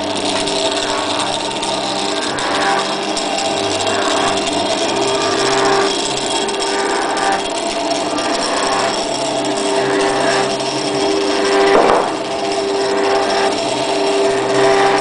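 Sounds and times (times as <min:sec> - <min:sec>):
machine motors whining: 0:00.0 - 0:15.0.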